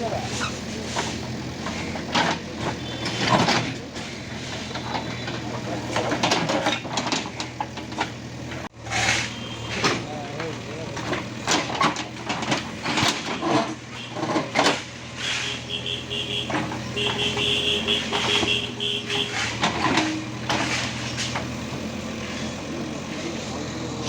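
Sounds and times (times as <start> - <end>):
diesel engine running: 0.0 - 24.0
metal clanks and knocks: 0.9 - 15.0, 16.4 - 22.5.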